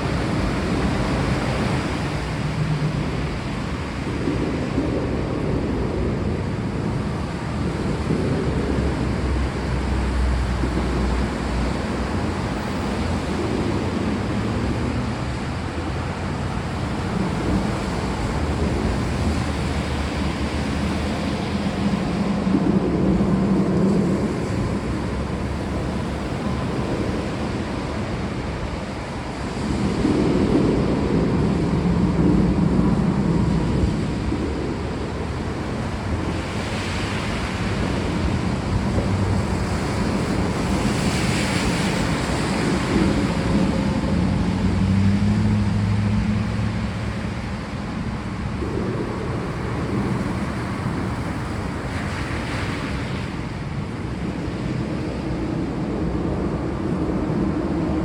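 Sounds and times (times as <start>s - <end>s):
thunder rumbling: 0.0s - 58.0s.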